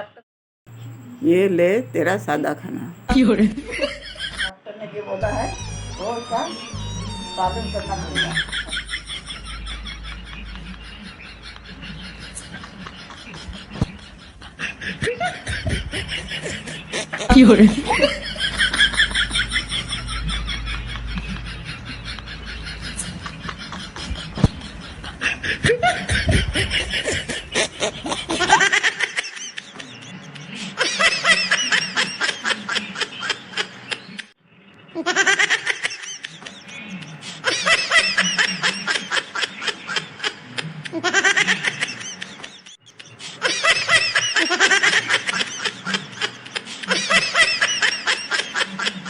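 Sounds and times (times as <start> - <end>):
snickering laughter: 8.0 - 34.3, 35.0 - 49.0.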